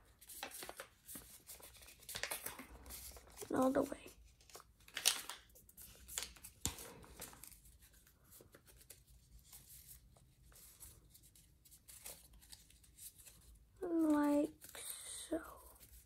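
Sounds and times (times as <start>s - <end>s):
paper rustling and crackling: 0.0s - 16.0s.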